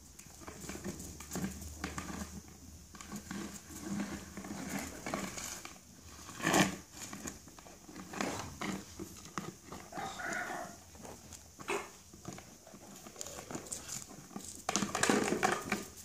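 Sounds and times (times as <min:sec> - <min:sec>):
puppies scuffling on paving: 0:00.1 - 0:16.0.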